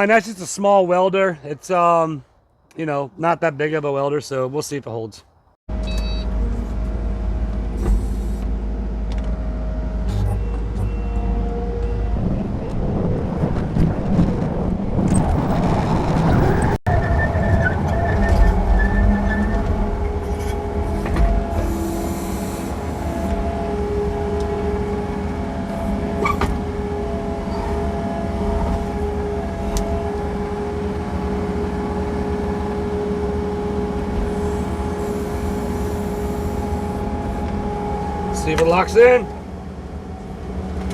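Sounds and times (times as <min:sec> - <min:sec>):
high whine: 0:05.7 - 0:40.9
machine engine running: 0:05.7 - 0:40.9.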